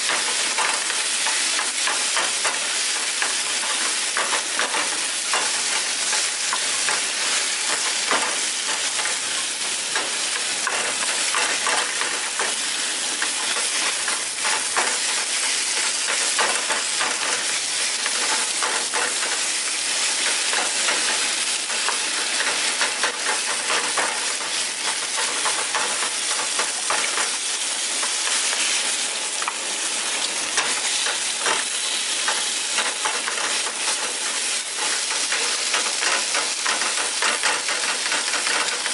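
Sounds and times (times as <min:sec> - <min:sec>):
rice sizzling in a pan: 0:00.0 - 0:38.9.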